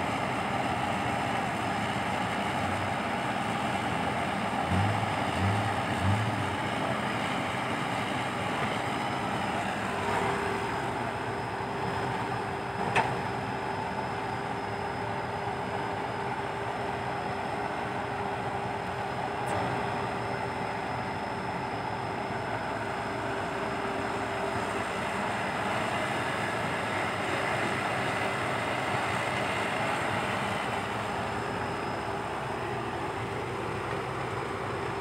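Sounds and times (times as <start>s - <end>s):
excavator diesel engine: 0.0s - 35.0s
steady whine: 0.0s - 35.0s.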